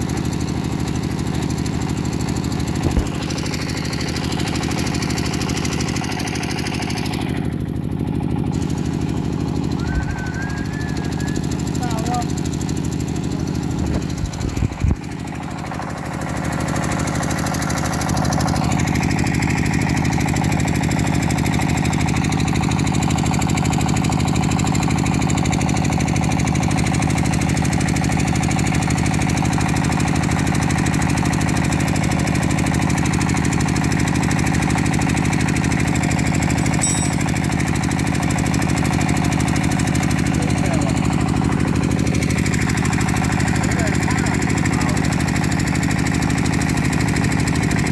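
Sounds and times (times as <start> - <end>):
engine running with rapid beat: 0.0 - 47.9.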